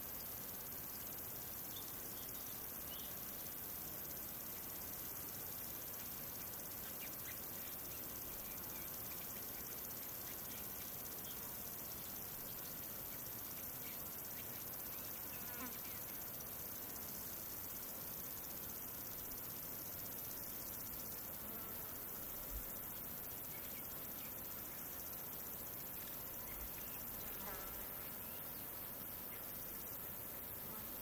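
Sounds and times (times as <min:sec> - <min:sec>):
insects chorus: 0:00.0 - 0:31.0.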